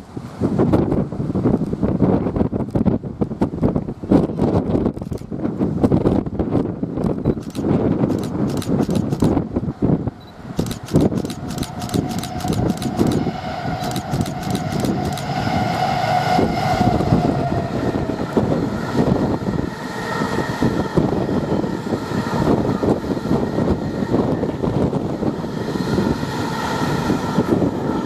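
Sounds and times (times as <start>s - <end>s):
train rumble and rail hum: 0.0s - 28.0s.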